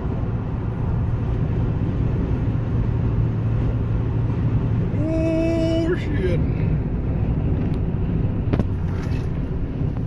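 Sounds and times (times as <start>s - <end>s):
vehicle road and engine noise: 0.0s - 10.0s.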